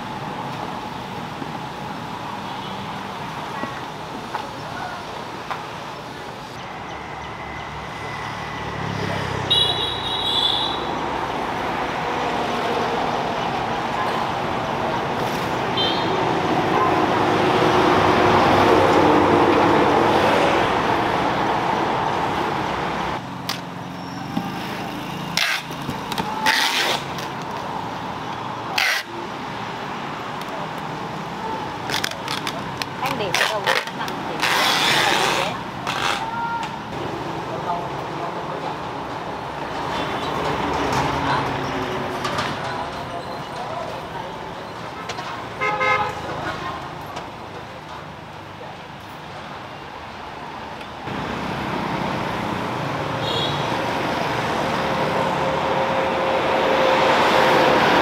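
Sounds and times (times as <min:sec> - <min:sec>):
street traffic: 0:00.0 - 0:58.0.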